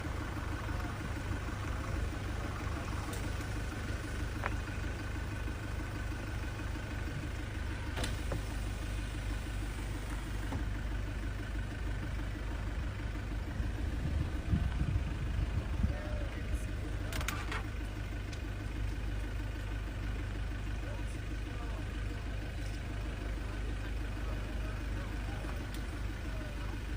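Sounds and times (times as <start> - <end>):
vehicle engine idling: 0.0 - 26.9.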